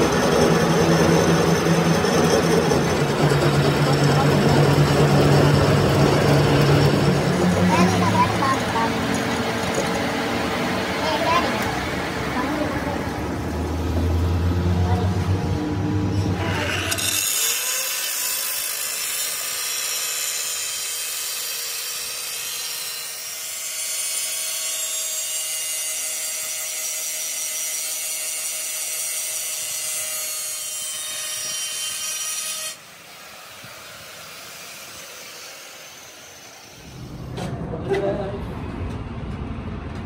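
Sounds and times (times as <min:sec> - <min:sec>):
power tool on metal: 0:00.0 - 0:13.2, 0:14.7 - 0:37.2.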